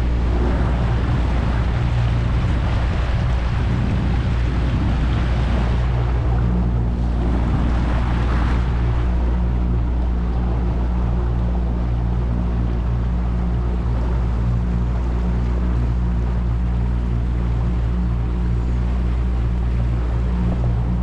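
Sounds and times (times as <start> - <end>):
boat engine droning: 0.0 - 21.0
water noise: 0.0 - 21.0
wind: 0.0 - 21.0.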